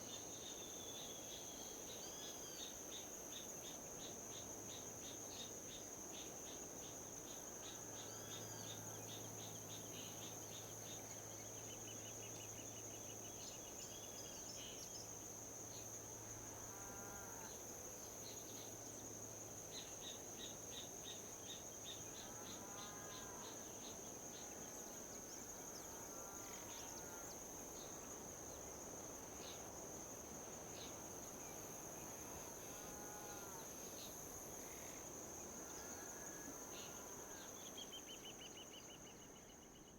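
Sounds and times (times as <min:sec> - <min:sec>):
wind: 0:00.0 - 0:39.9
insects trilling: 0:00.1 - 0:39.9.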